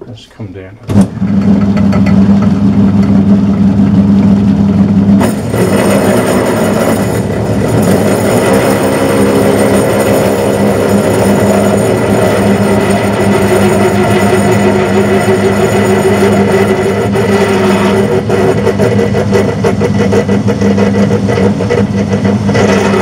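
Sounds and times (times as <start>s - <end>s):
lathe motor hum: 0.9s - 23.0s
lathe tool cutting metal: 1.2s - 23.0s.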